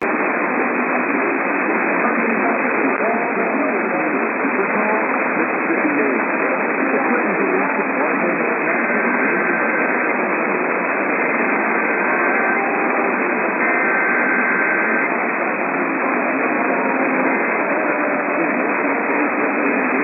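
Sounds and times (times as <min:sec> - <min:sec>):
faint radio programme audio: 0:00.0 - 0:20.0
radio static hiss: 0:00.0 - 0:20.0.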